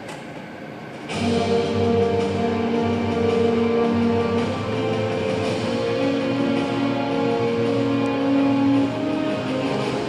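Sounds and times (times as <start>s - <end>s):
instrumental music with held notes: 1.1s - 10.0s.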